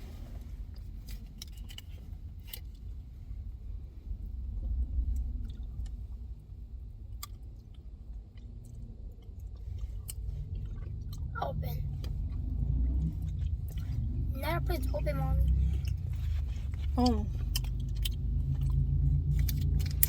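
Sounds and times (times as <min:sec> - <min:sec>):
car cabin rumble while driving: 0:00.0 - 0:20.0.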